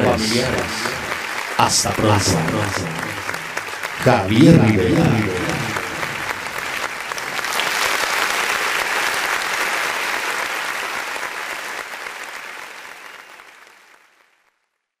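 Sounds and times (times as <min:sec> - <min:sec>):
crowd applauding: 0:00.0 - 0:14.5.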